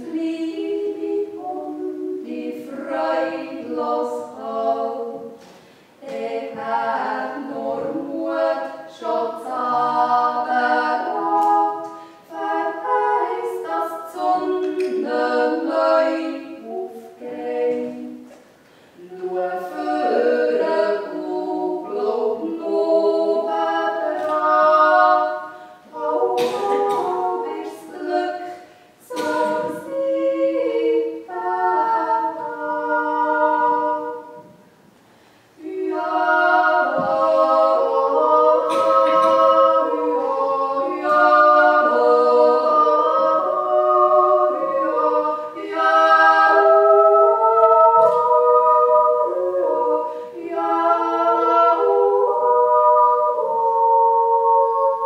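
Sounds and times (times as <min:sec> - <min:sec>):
women singing in harmony: 0:00.0 - 0:34.8, 0:35.5 - 0:55.0.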